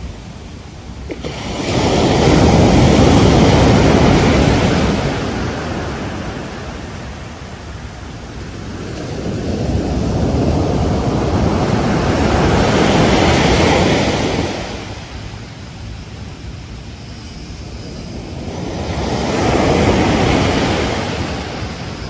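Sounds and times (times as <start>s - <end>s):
ocean waves breaking: 0.4s - 22.0s.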